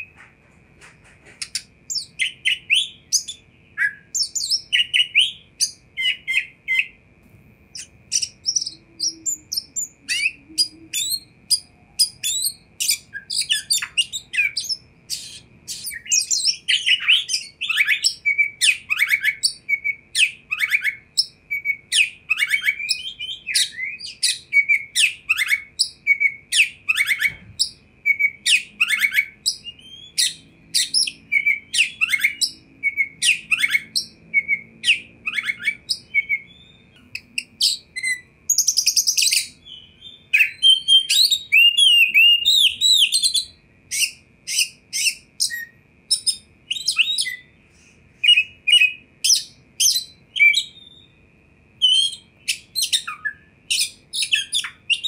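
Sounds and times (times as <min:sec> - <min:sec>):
bird singing whistled notes: 0:01.4 - 0:07.0, 0:07.7 - 0:55.0.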